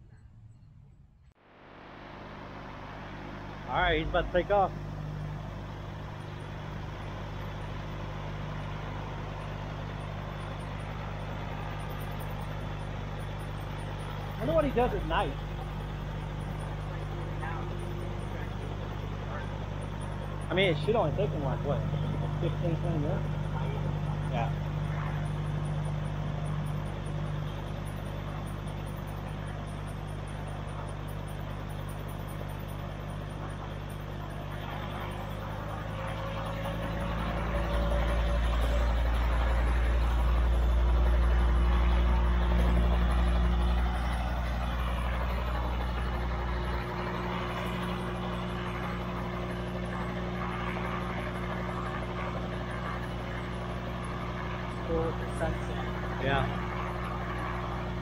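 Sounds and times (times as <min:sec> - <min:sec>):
helicopter engine and rotors: 0:01.4 - 0:58.0.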